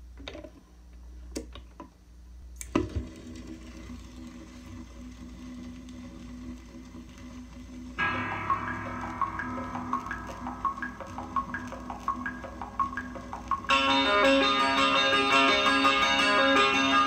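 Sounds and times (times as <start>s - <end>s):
record needle hum and crackle: 0.0s - 17.0s.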